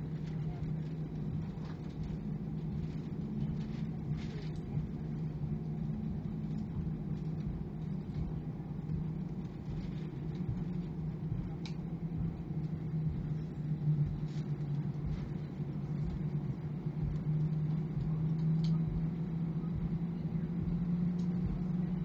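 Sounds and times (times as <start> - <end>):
jet engines humming in cabin: 0.0 - 22.0.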